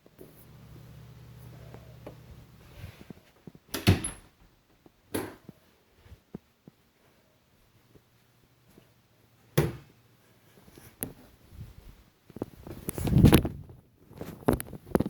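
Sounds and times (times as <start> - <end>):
low steady hum: 0.0 - 14.9.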